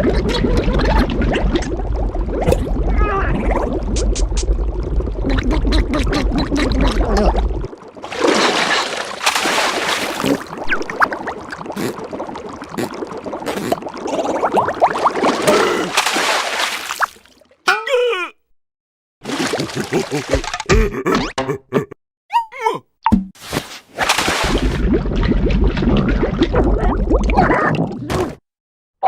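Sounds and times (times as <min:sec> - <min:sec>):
wet gurgling splashing: 0:00.0 - 0:17.6, 0:19.2 - 0:21.1, 0:24.0 - 0:28.3.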